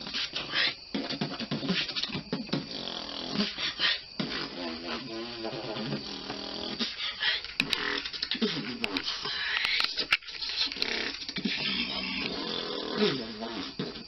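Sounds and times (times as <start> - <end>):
man beatboxing: 0.1 - 7.0, 7.6 - 14.0.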